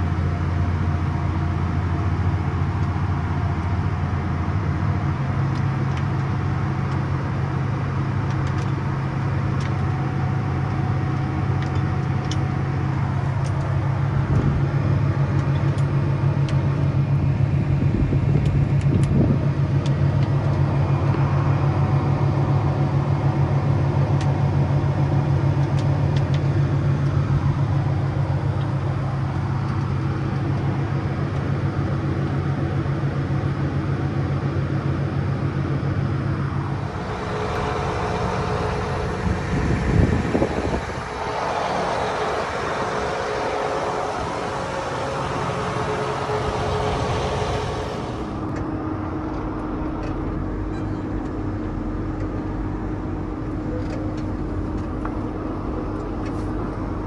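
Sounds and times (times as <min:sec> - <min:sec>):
tractor engine running under load: 0:00.0 - 0:57.0.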